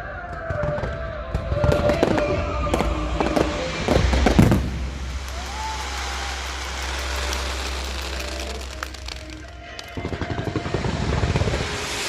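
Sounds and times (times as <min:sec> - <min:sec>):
fireworks bangs and crackles: 0:00.0 - 0:12.0
low rumble: 0:01.2 - 0:12.0.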